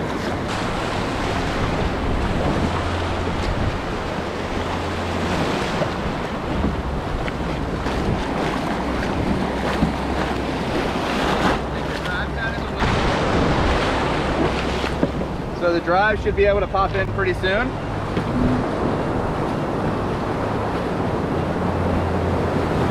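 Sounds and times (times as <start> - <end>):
ocean surf washing and foaming: 0.0 - 22.9
wind buffeting microphone: 0.0 - 22.9.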